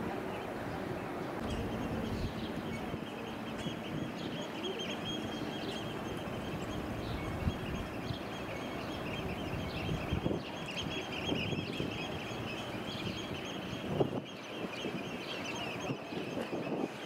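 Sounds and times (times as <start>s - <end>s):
gulls calling: 0.0s - 17.0s
low harbour rumble: 0.0s - 17.0s.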